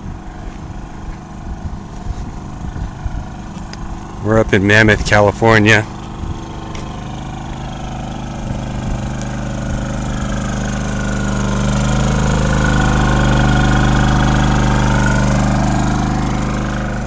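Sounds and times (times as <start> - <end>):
generator humming: 0.0 - 17.0.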